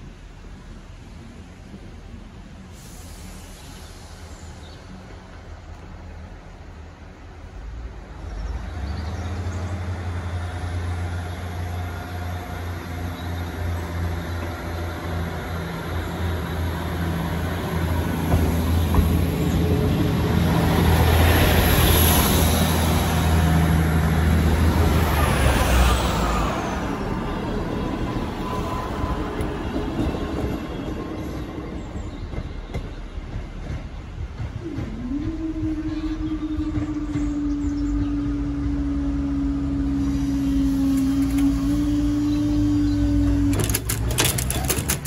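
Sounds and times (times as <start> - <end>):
train engines running: 0.0 - 45.0.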